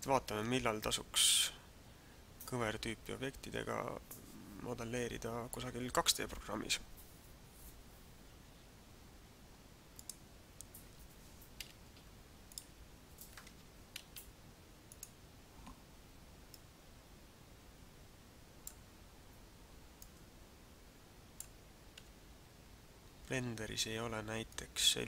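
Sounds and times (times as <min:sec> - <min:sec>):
low steady hiss: 0:00.0 - 0:25.0.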